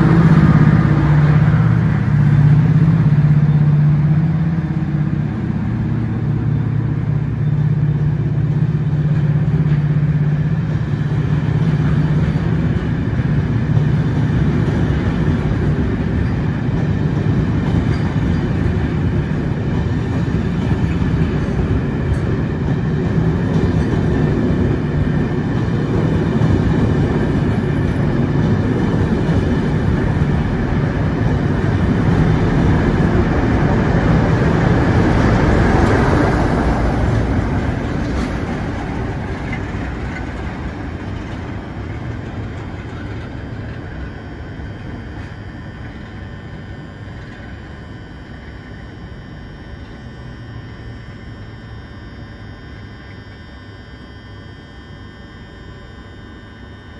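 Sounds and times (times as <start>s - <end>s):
train wheels rumbling on rails: 0.0s - 53.7s.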